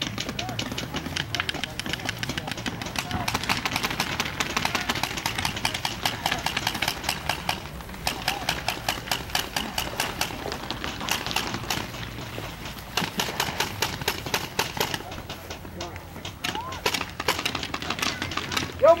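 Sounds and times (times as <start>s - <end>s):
paintball markers firing: 0.0s - 19.0s.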